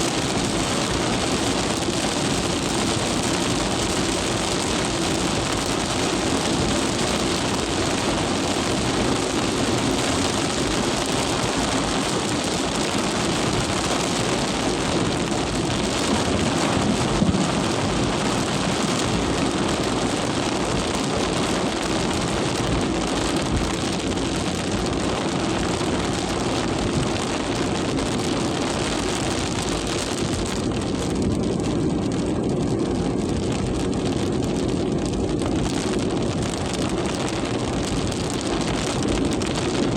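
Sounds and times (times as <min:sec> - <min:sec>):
heavy rain in strong wind: 0:00.0 - 0:39.9.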